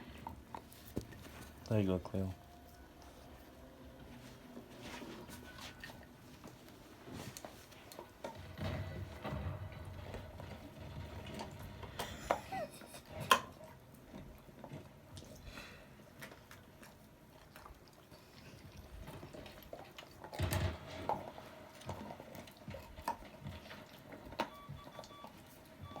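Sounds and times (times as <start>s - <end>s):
dog gnawing on a bone: 0.0s - 12.1s, 13.0s - 26.0s.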